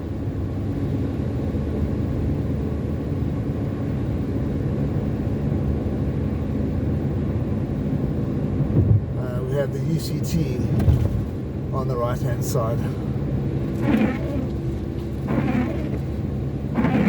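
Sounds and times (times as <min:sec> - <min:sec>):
car engine drone: 0:00.0 - 0:17.0
road noise: 0:00.0 - 0:17.0.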